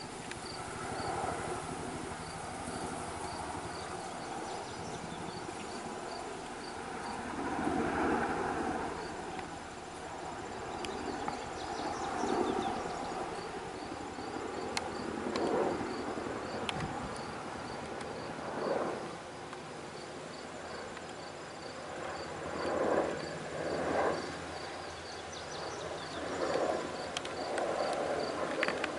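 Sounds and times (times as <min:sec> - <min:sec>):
insects chirping: 0:00.0 - 0:28.9.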